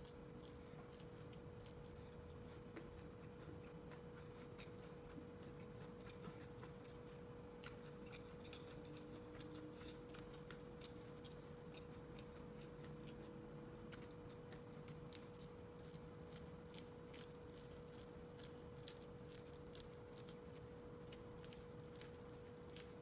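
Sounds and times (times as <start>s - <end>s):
person chewing corn: 0.0s - 23.0s
steady hum: 0.0s - 23.0s.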